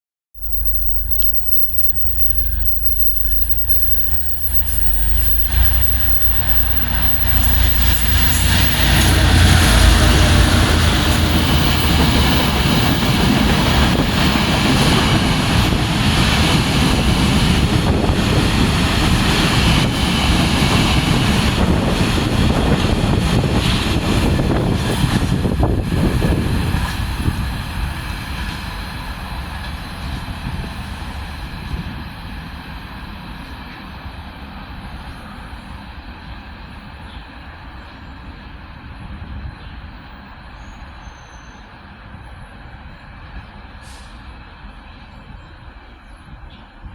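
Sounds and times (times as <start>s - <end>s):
freight train passing: 0.4s - 46.9s
train wheels rolling on rails: 0.4s - 46.9s.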